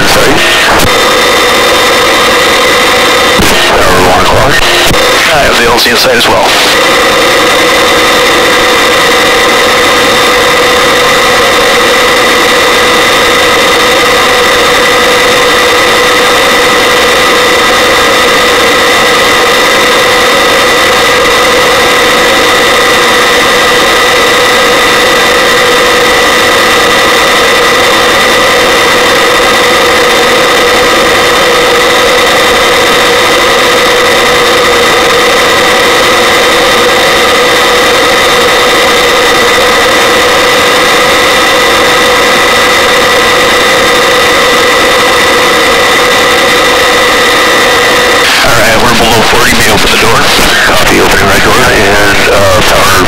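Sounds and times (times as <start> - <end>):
helicopter engine and rotor: 0.0 - 53.0
high whine: 0.0 - 53.0.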